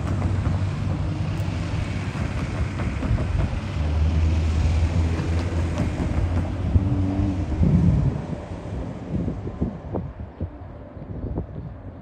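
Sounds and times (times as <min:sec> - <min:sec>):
freight train rumbling: 0:00.0 - 0:12.0
wind on microphone: 0:00.0 - 0:12.0.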